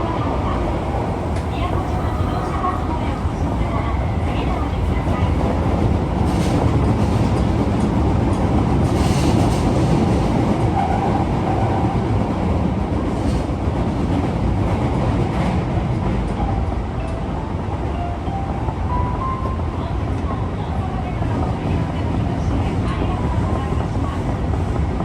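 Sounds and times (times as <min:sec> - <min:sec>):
subway train low rumble: 0:00.0 - 0:25.0.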